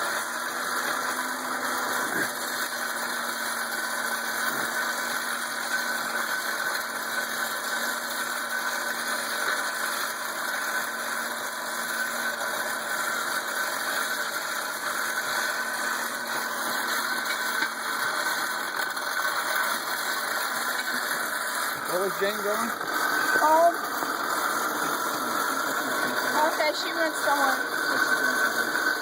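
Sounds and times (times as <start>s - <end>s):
hand-cranked blower whirring: 0.0s - 29.0s.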